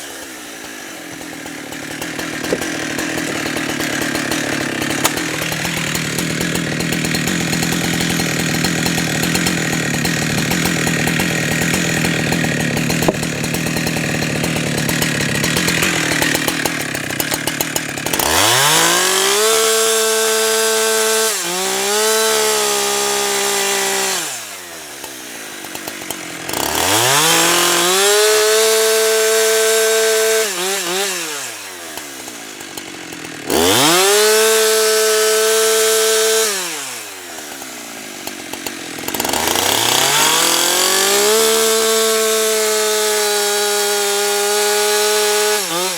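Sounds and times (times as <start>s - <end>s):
chainsaw cutting log: 0.0s - 45.9s
chainsaw revving: 0.0s - 45.9s.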